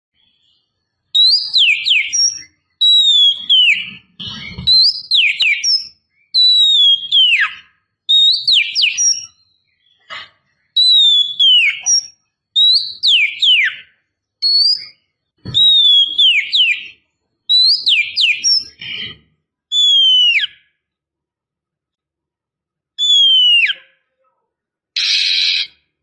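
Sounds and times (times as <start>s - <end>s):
bird whistling call: 1.2s - 20.7s, 23.0s - 24.0s, 25.0s - 25.8s.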